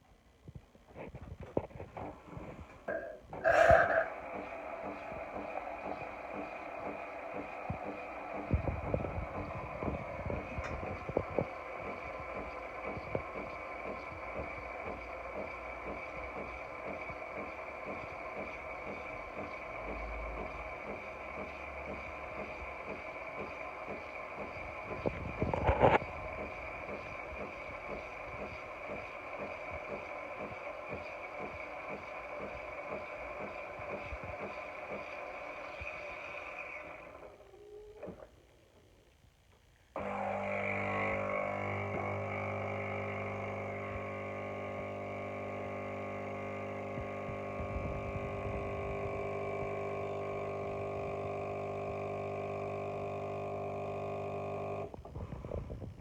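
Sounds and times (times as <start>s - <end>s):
coffee machine buzzing hum: 1.0s - 38.4s, 40.0s - 56.0s
pump low pulses: 2.4s - 34.6s, 40.0s - 56.0s.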